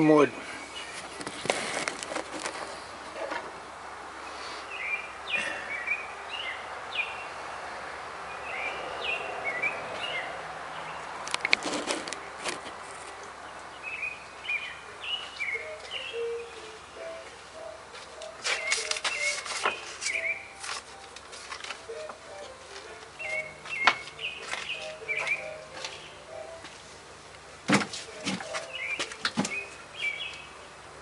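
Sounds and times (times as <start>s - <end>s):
birds chirping: 0.0s - 2.9s, 4.2s - 21.2s, 21.8s - 26.7s, 28.0s - 30.8s.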